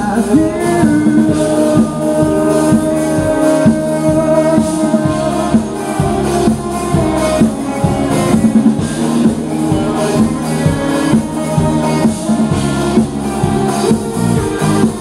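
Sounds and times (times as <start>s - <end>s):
electric guitars: 0.0s - 15.0s
keyboard sustained chords: 0.0s - 15.0s
steady drum beat: 0.0s - 15.0s.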